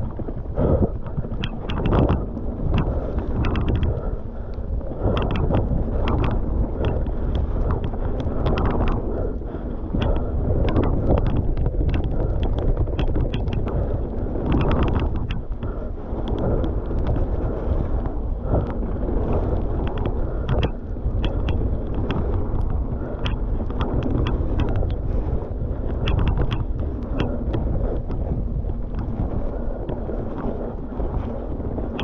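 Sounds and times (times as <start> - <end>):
bike clicks and rattles: 0.0 - 32.0
wind buffeting microphone: 0.0 - 32.0.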